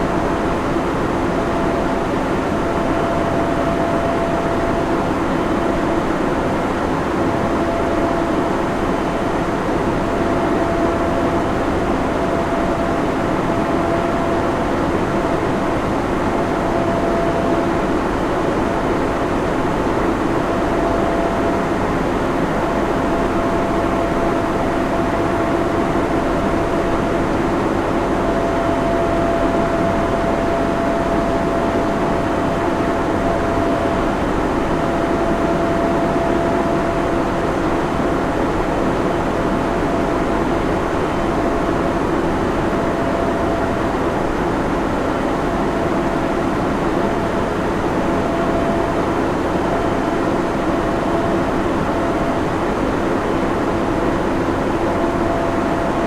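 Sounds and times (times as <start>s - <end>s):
cooling fans rushing: 0.0s - 56.0s
steady hum: 0.0s - 56.0s.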